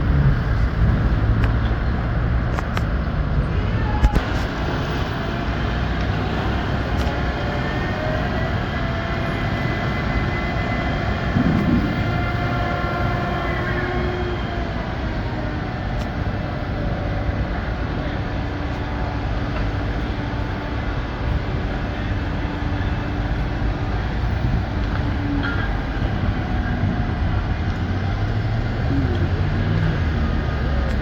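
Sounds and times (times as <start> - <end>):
heavy machinery rumbling: 0.0 - 31.0.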